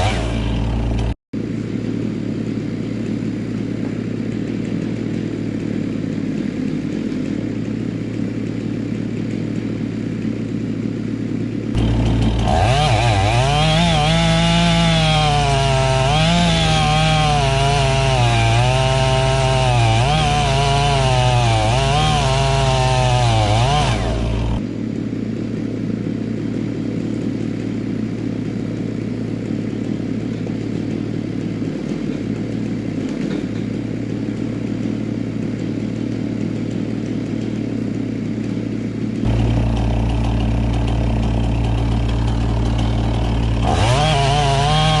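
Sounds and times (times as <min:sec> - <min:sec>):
engine idling: 0:00.0 - 0:17.3, 0:22.7 - 0:45.0
chainsaw cutting wood: 0:00.0 - 0:45.0.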